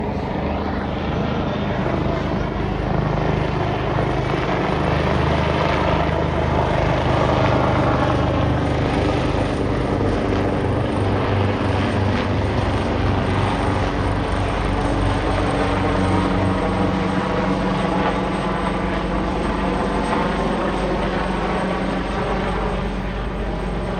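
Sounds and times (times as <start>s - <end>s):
helicopter rotor and engine: 0.0s - 23.9s.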